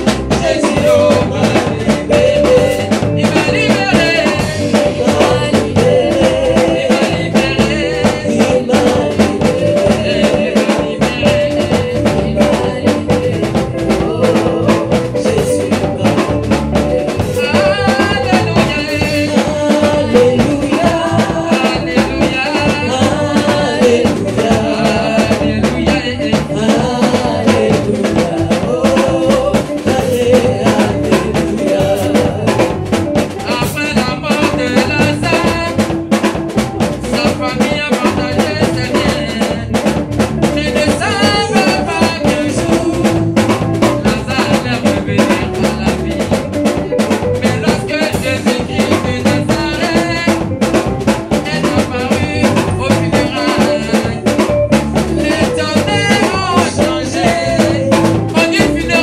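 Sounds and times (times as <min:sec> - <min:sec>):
drums: 0:00.0 - 0:59.0
gospel band playing: 0:00.0 - 0:59.0
singers: 0:00.0 - 0:59.0.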